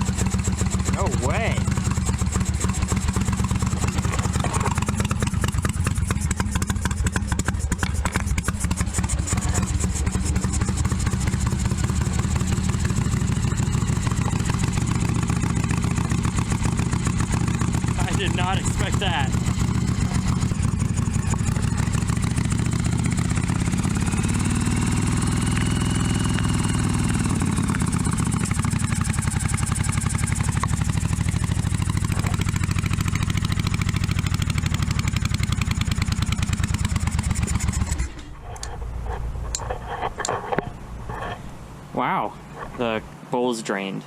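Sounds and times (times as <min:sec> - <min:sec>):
motorcycle engine running: 0:00.0 - 0:41.4.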